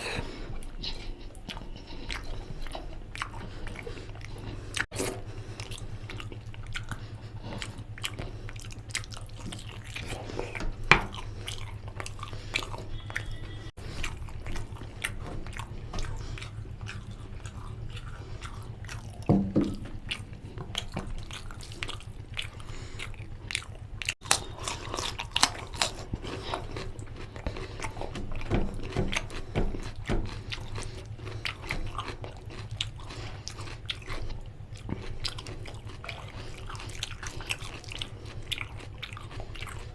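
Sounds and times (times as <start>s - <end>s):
person chewing with wet mouth smacks: 0.0s - 39.9s.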